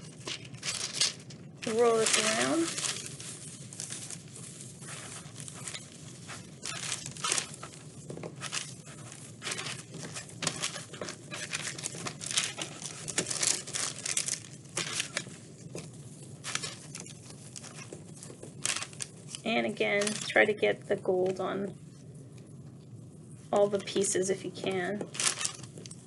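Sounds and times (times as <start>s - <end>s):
paper crinkling and rustling: 0.0s - 20.4s, 23.6s - 26.0s.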